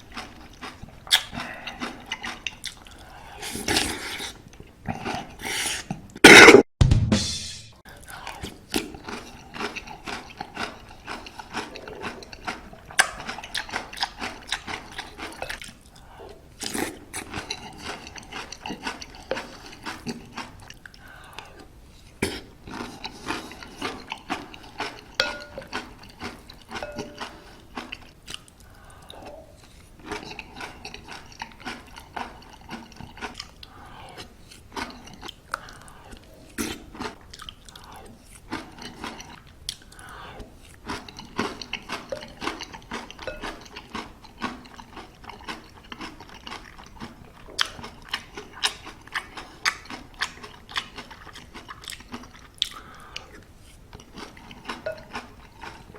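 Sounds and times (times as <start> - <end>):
chewing crunchy granola: 0.0 - 5.4, 8.0 - 55.9.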